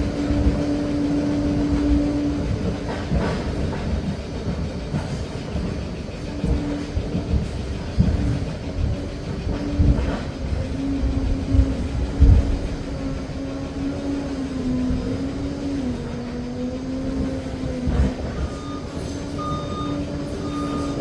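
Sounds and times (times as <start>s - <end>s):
dozer engine droning: 0.0s - 21.0s.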